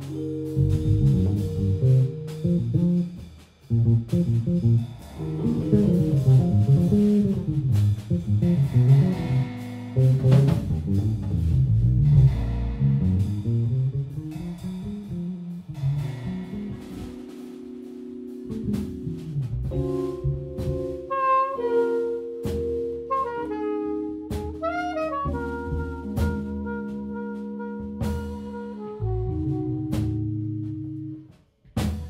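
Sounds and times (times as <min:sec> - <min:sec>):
electric piano: 0:00.0 - 0:14.6, 0:15.8 - 0:31.3
electric bass playing low notes: 0:00.0 - 0:31.3
drum kit: 0:00.0 - 0:32.0.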